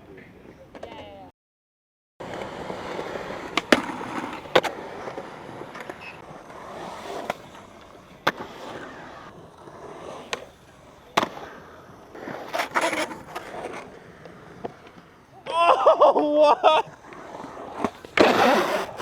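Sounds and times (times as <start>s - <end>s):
skateboard clacking on ground: 2.2s - 15.5s, 16.9s - 19.0s
skateboard wheels rolling: 2.2s - 19.0s.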